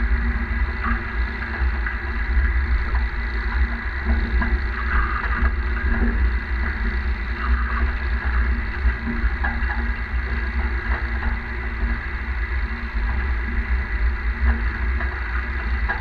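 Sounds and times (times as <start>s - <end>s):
heavy rumble: 0.0s - 16.0s.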